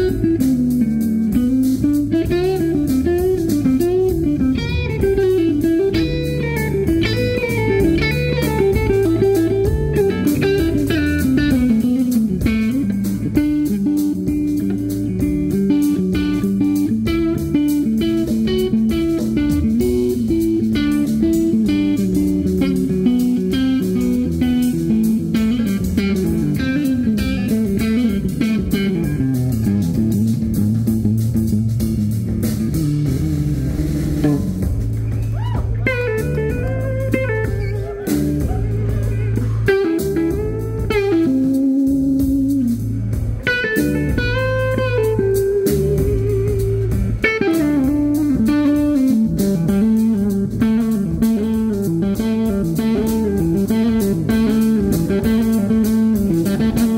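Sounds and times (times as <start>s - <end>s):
drums: 0.0s - 56.9s
lead electric guitar: 0.0s - 56.9s
steady bass line: 0.0s - 56.9s.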